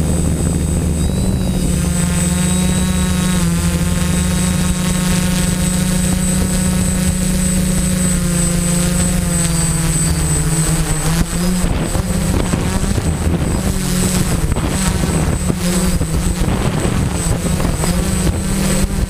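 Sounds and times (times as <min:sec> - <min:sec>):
drone propellers whirring: 0:00.0 - 0:19.0.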